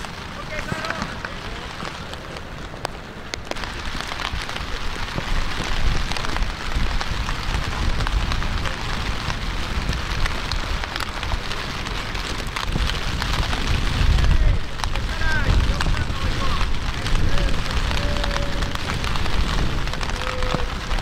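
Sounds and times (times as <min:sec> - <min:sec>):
raindrop ticks: 0:00.0 - 0:21.0
steady rain hiss: 0:00.0 - 0:21.0.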